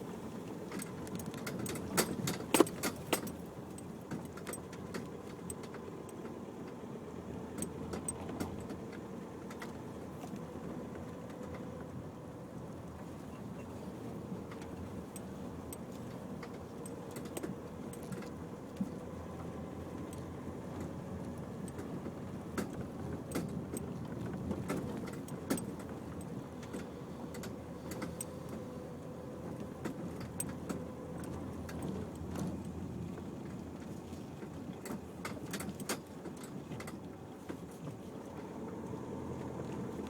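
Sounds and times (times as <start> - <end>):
engine and tyre rumble: 0.0 - 40.0.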